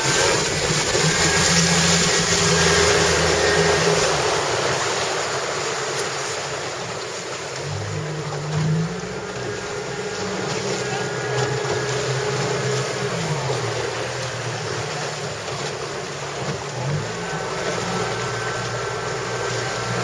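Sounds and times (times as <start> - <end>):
motorboat engine running: 0.0 - 20.0
water noise: 0.0 - 20.0.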